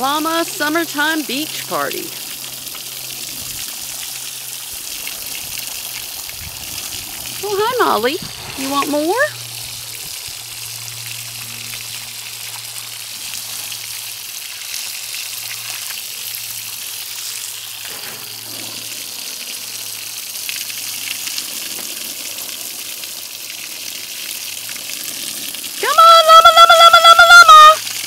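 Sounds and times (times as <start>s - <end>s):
hose spraying water: 0.0s - 28.0s.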